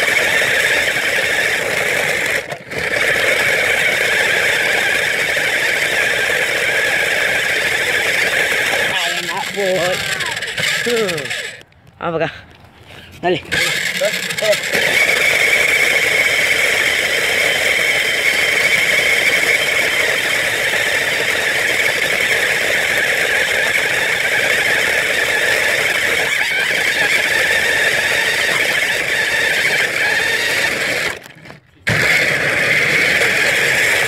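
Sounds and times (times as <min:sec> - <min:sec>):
toy car electric motors whining: 0:00.0 - 0:11.9, 0:12.5 - 0:34.0.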